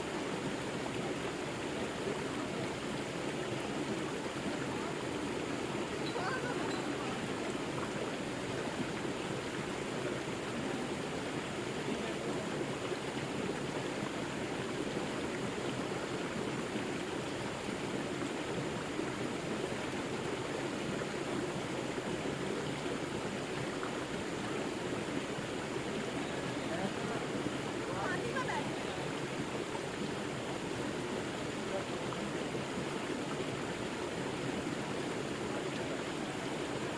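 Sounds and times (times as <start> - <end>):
river water rushing: 0.0 - 36.9.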